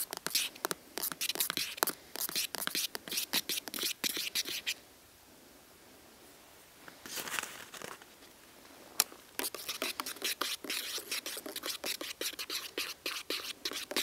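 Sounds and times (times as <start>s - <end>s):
rustle: 0.0s - 14.0s.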